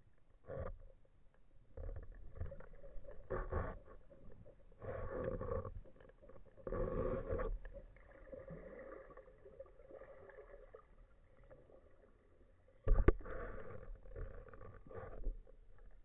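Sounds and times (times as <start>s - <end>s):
water swishing underwater: 0.1s - 16.0s.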